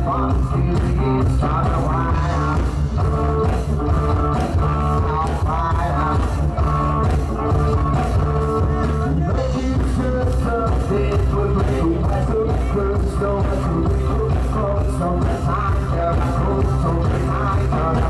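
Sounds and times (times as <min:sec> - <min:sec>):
loud dance music: 0:00.0 - 0:18.0.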